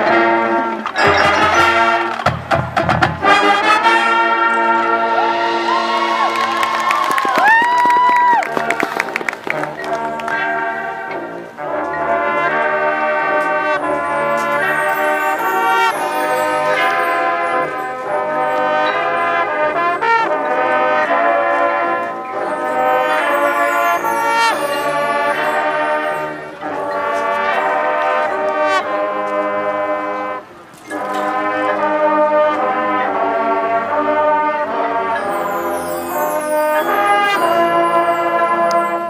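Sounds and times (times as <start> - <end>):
brass sustained chords: 0.0 - 6.8, 8.5 - 39.0
marching band playing: 0.0 - 39.0.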